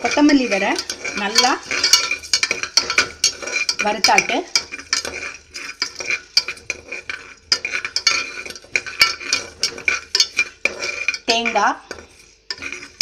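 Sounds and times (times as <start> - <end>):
spoon scraping metal pot: 0.0 - 13.0.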